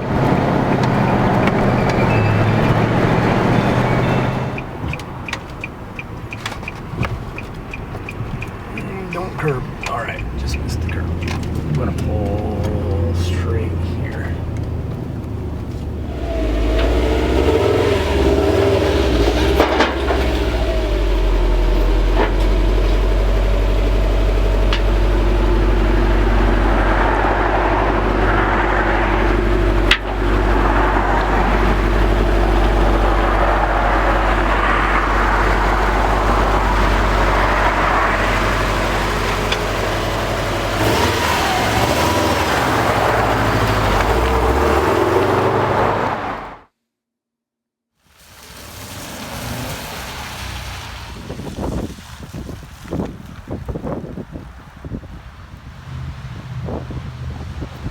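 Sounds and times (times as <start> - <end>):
car engine rumble: 0.0 - 46.7, 48.1 - 57.9
tyre and road noise: 0.0 - 46.7, 48.0 - 57.9.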